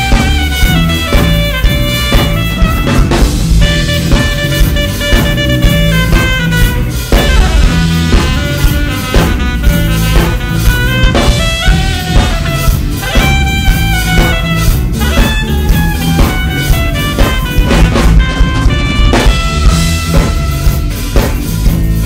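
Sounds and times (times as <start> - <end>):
alto saxophone melody: 0.0 - 22.0
bass: 0.0 - 22.0
drum kit beat: 0.0 - 22.0
guitar: 0.0 - 22.0.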